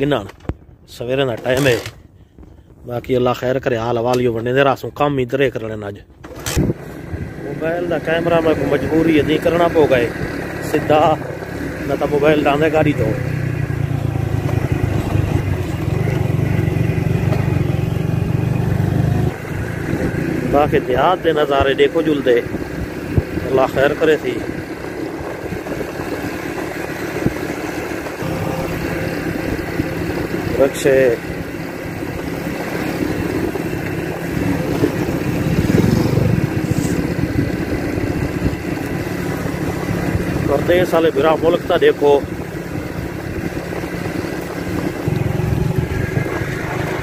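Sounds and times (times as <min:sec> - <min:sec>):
motorcycle engine running: 0:06.3 - 0:47.0
passing motorcycle rickshaw engine: 0:06.3 - 0:47.0.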